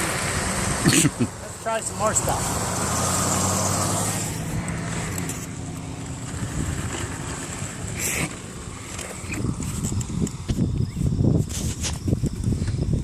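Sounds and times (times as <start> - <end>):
pickup truck engine rumbling: 0.0 - 11.4.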